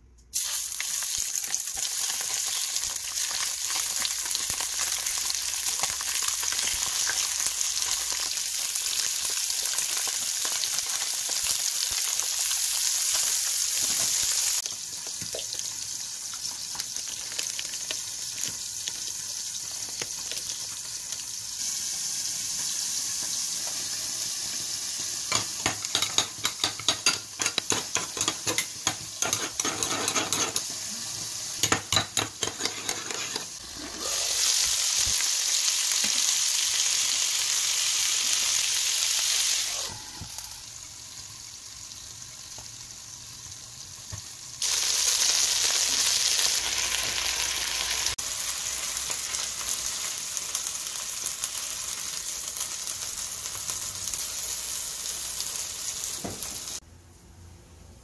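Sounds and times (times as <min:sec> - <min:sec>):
chicken sizzling in a pan: 0:00.3 - 0:56.8.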